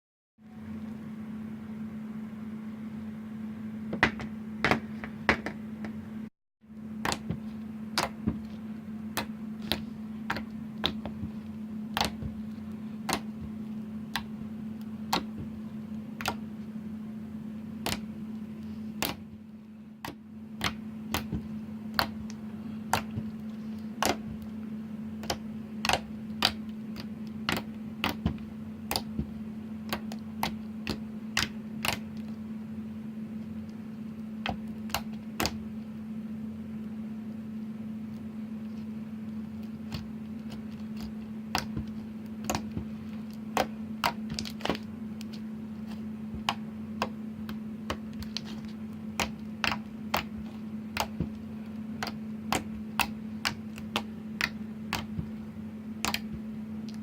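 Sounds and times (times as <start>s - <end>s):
steady low hum: 0.4s - 57.0s.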